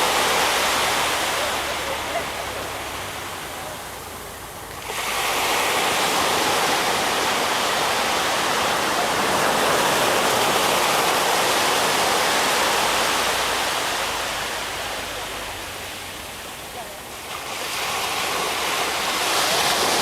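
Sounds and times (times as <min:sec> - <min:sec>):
sea wave breaking: 0:00.0 - 0:20.0.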